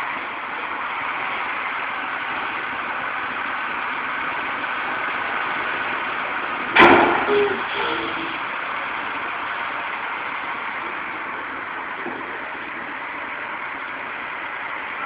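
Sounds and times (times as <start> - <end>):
truck engine idling: 0.0 - 15.0
loud burst of noise: 0.7 - 15.0.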